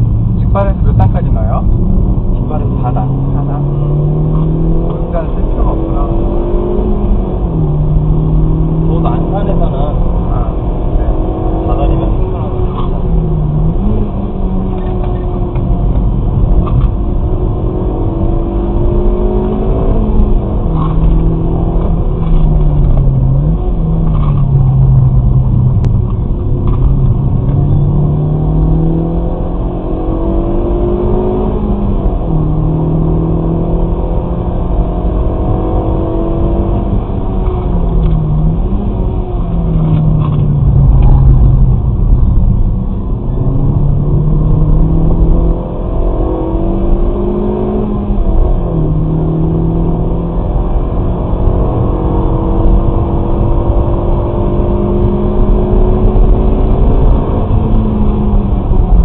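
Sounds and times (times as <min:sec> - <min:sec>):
car engine revving: 0:00.0 - 0:59.0
tyre and road noise: 0:00.0 - 0:59.0.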